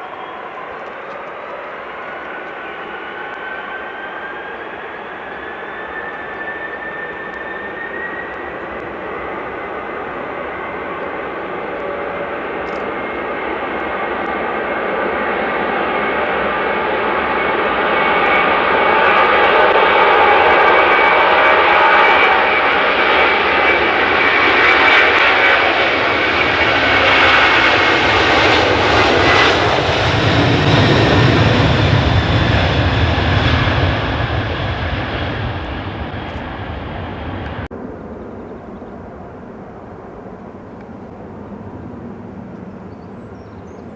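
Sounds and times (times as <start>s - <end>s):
deep jet rumble: 0.0s - 43.9s
jet engines whine: 0.0s - 43.9s.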